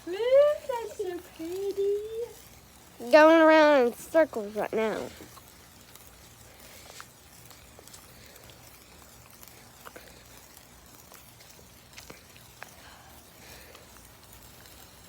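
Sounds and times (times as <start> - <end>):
sparkler crackles: 0.0 - 15.0
sparkler fizzing: 0.0 - 15.0.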